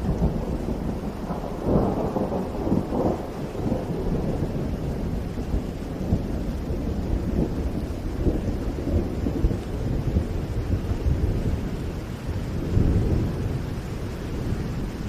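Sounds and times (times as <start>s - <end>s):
rolling thunder: 0.0s - 15.0s
steady rain: 0.0s - 15.0s.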